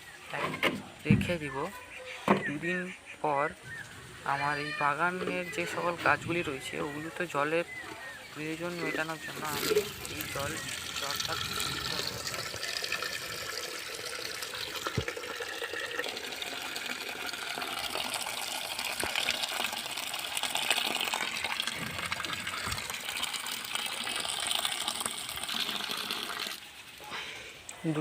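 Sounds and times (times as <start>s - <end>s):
water gushing into a bucket: 4.6s - 27.1s.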